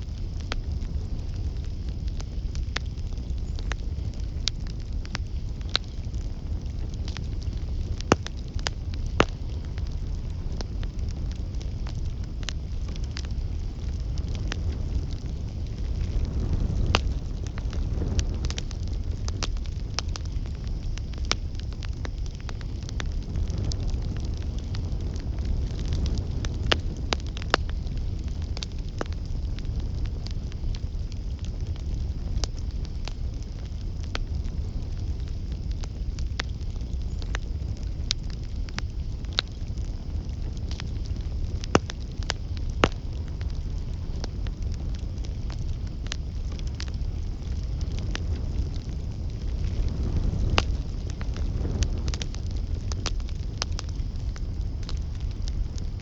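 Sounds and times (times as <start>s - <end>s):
campfire flames hissing: 0.0s - 56.0s
fire crackles and pops: 0.0s - 56.0s.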